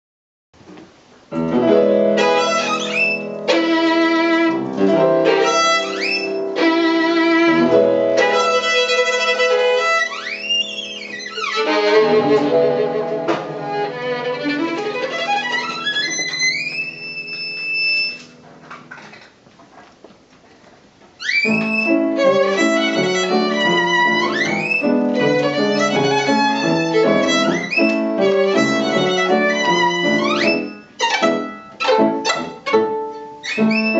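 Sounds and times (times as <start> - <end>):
violin playing lively tune: 2.1 - 18.3, 21.2 - 33.9.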